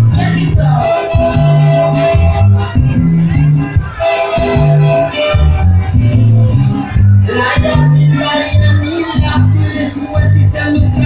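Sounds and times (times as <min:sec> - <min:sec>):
person singing: 0:00.0 - 0:02.8, 0:03.8 - 0:11.0
heavy bass line: 0:00.0 - 0:11.0.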